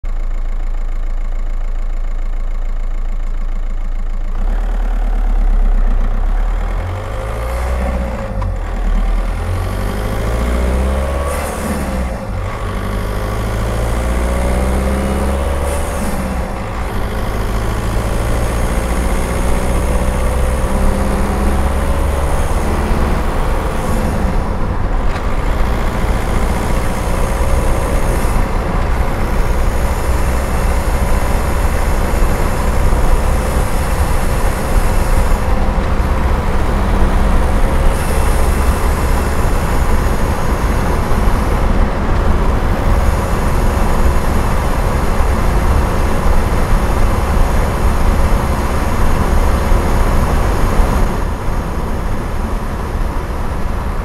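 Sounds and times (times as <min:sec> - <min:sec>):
diesel car engine accelerating: 0:00.0 - 0:54.0.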